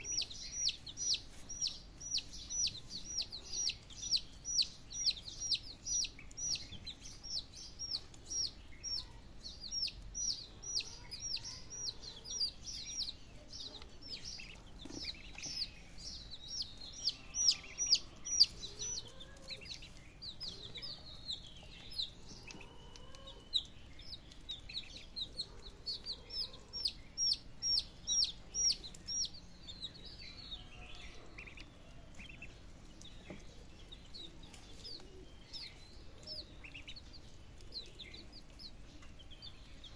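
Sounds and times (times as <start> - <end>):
chicks and ducklings peeping: 0.0 - 39.9.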